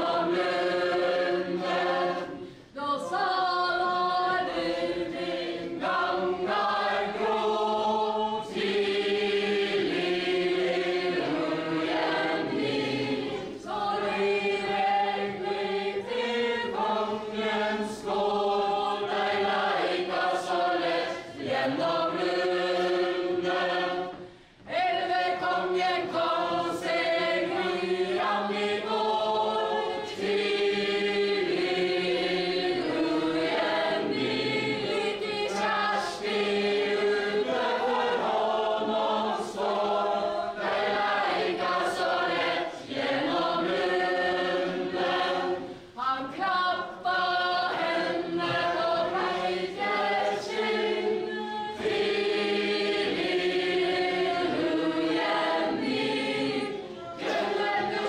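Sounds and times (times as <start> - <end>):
group singing a ballad: 0.0 - 58.0.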